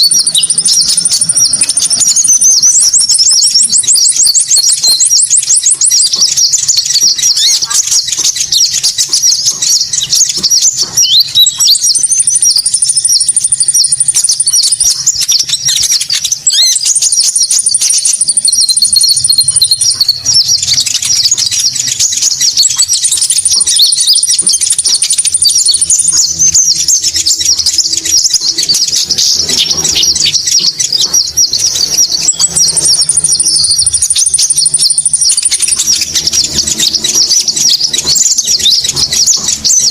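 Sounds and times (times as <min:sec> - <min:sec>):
fast high bird trill: 0:00.0 - 0:39.9
high chattering bird twitter: 0:00.0 - 0:39.9.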